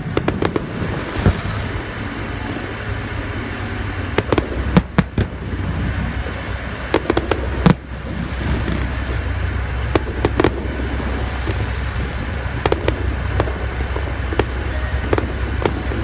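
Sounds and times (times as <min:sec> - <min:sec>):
distant fireworks bangs: 0:00.0 - 0:16.0
steady low rumble: 0:00.0 - 0:16.0.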